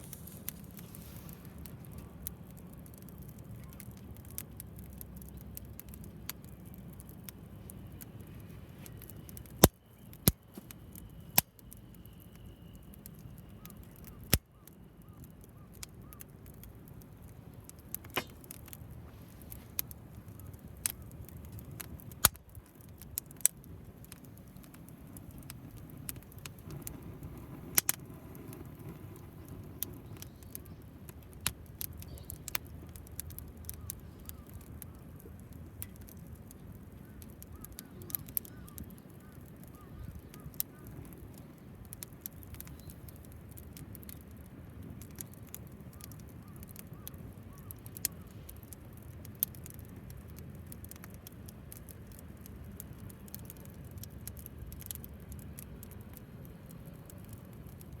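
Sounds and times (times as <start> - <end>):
low rush of flame: 0.0 - 11.5, 15.7 - 58.0
fire popping and crackling: 0.0 - 58.0.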